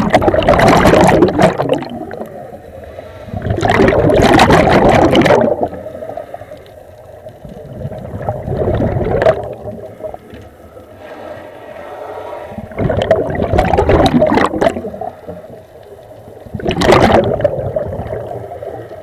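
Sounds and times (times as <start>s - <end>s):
underwater exhaust bubbles: 0.0s - 19.0s.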